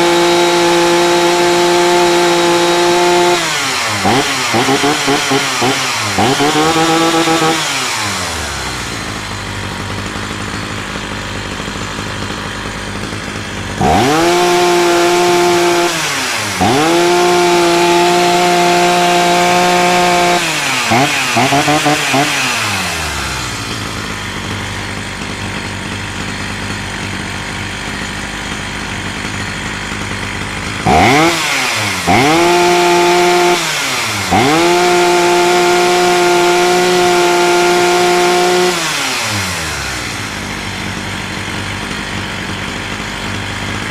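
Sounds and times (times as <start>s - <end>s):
chainsaw idling and revving: 0.0s - 43.9s.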